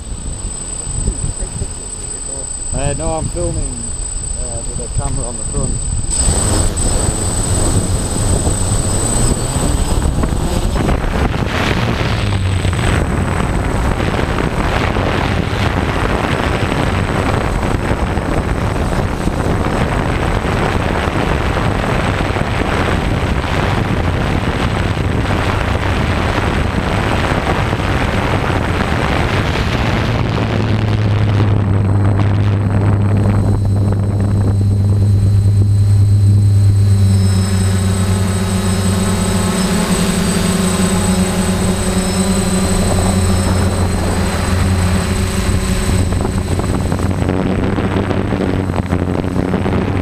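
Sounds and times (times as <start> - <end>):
hexacopter motors and propellers: 0.0 - 50.0.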